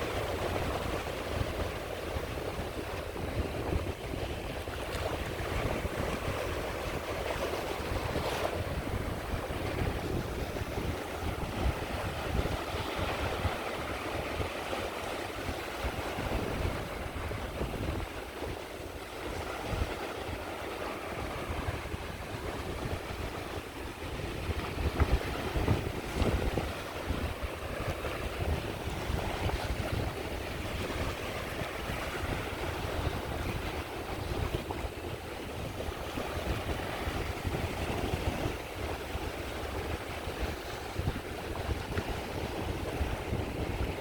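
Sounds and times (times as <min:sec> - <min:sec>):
sea waves washing onto beach: 0:00.0 - 0:44.0
wind rumbling on microphone: 0:00.0 - 0:44.0.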